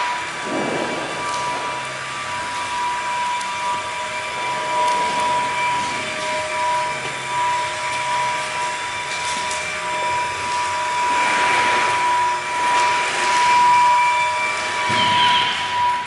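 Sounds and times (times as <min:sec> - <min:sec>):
motor drone with high whine: 0:00.0 - 0:16.0.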